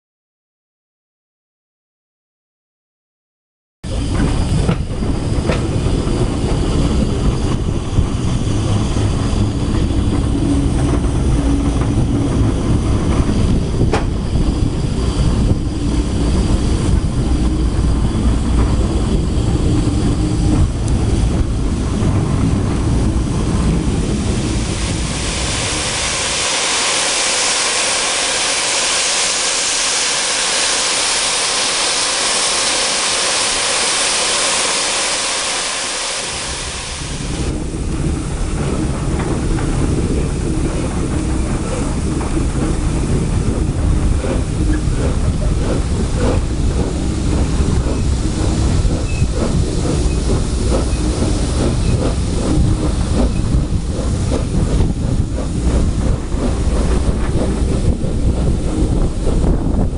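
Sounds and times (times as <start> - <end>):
train rumbling on rails: 3.8 - 59.9.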